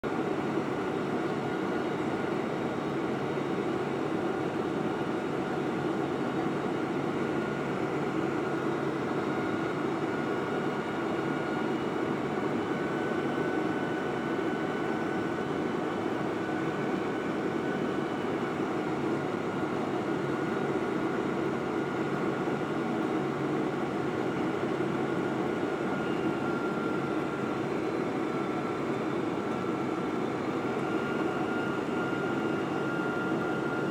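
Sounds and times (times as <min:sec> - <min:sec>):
jet engine and airflow noise: 0:00.0 - 0:33.9.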